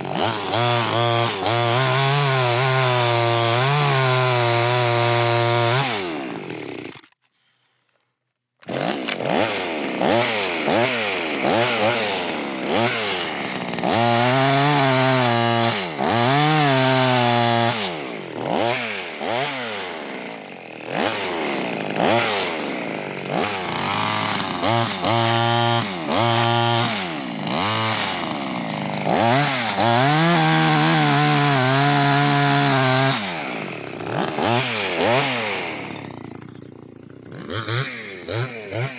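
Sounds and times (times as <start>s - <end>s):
chainsaw engine revving: 0.0s - 7.2s, 8.6s - 38.9s.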